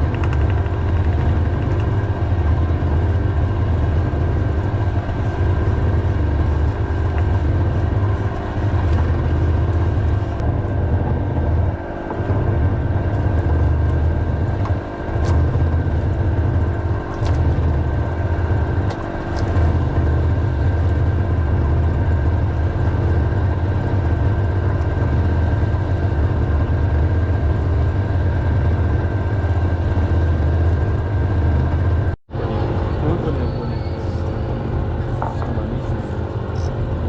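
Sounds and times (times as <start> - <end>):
engine droning: 0.0 - 37.0
high whine: 0.0 - 37.0.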